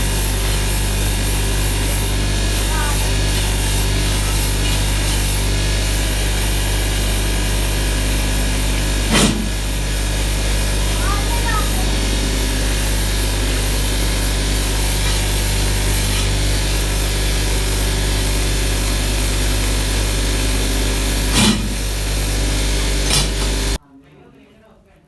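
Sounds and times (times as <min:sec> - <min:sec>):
low hum: 0:00.0 - 0:23.8
power tool working steel: 0:00.0 - 0:23.8.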